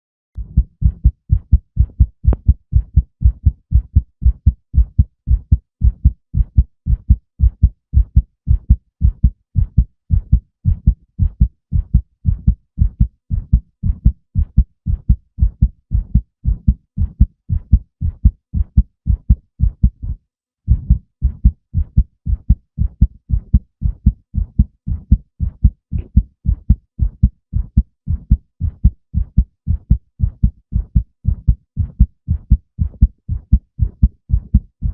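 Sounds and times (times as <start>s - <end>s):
heartbeat thudding: 0.4s - 34.9s.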